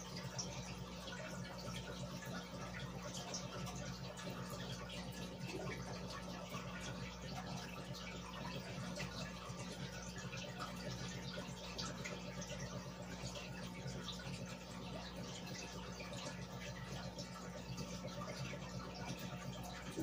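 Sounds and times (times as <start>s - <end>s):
aquarium water bubbling: 0.0s - 20.0s
low steady hum: 0.0s - 20.0s.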